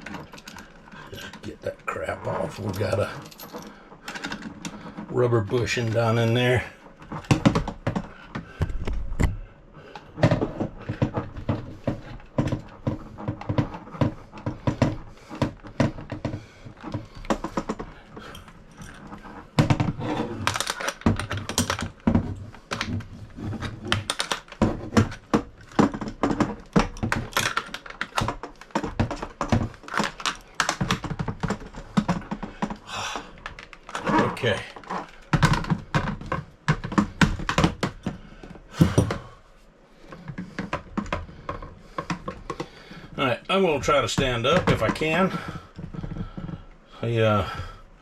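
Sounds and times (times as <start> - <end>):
hard parts clicking and tapping: 0.0 - 39.4.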